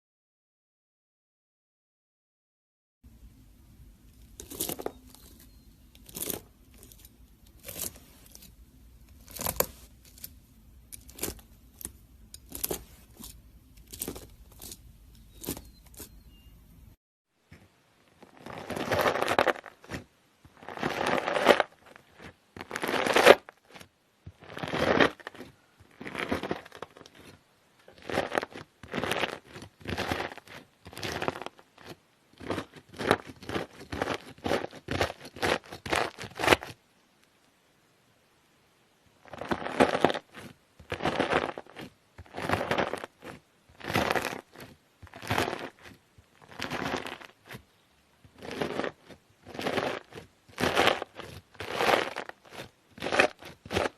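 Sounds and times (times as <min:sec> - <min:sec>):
knife cutting crunchy slime: 0:04.3 - 0:16.2, 0:18.3 - 0:36.8, 0:39.3 - 0:47.6, 0:48.3 - 0:53.9.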